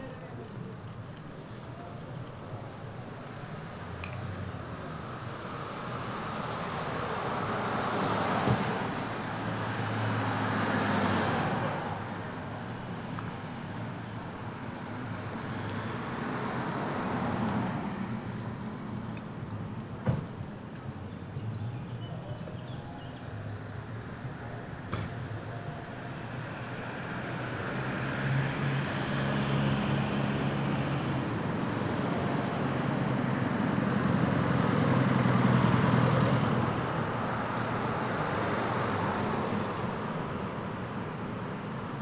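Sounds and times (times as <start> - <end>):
background traffic: 0.0 - 42.0.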